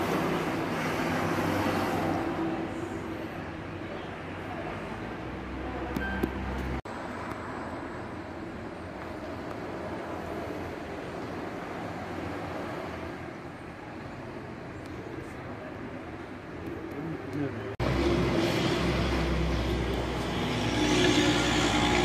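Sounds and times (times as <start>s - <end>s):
bus driving by: 0.0s - 16.4s, 17.3s - 22.0s
road traffic passing: 0.0s - 22.0s.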